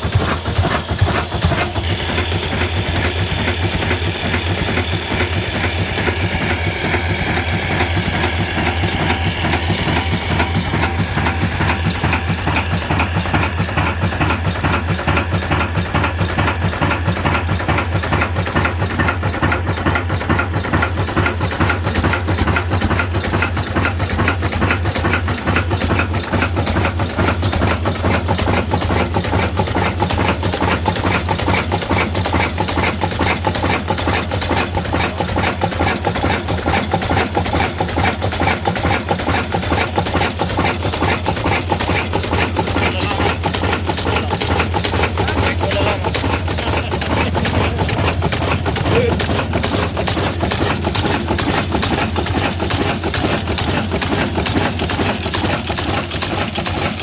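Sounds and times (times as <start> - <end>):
diesel engine clattering: 0.0 - 57.0.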